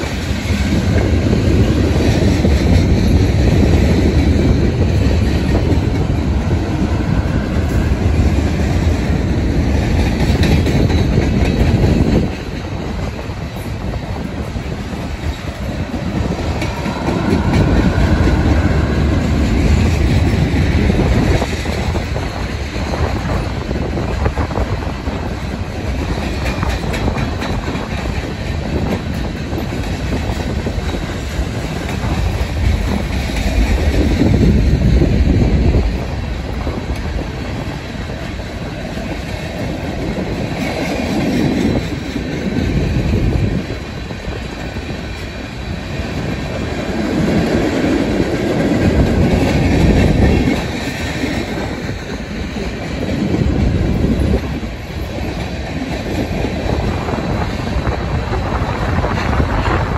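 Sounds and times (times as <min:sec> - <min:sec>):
freight cars rumbling and clattering: 0:00.0 - 0:59.9.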